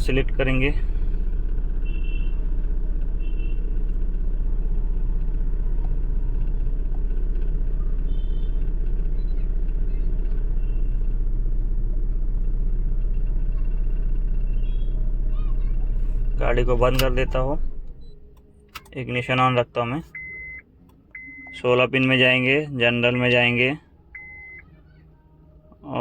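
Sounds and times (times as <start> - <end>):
car engine idling rough: 0.0 - 26.0.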